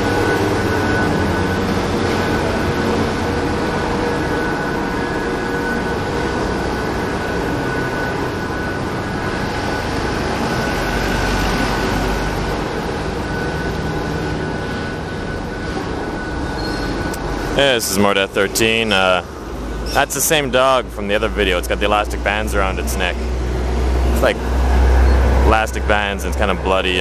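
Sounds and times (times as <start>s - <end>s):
thin constant whine: 0.0s - 27.0s
vehicle engine hum: 0.0s - 27.0s.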